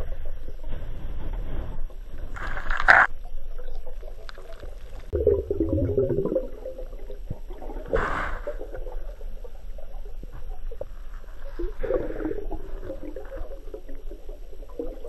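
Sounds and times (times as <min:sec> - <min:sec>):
low underwater rumble: 0:00.0 - 0:15.0
underwater bubbles hissing: 0:02.4 - 0:15.0.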